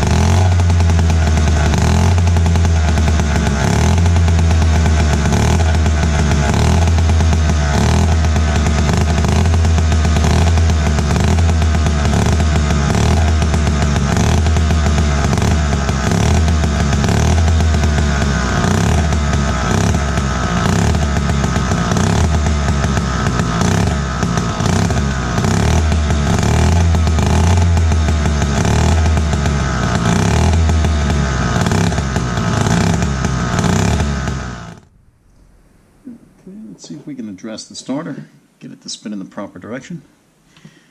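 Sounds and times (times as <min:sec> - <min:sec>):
chainsaw engine running: 0:00.0 - 0:34.9.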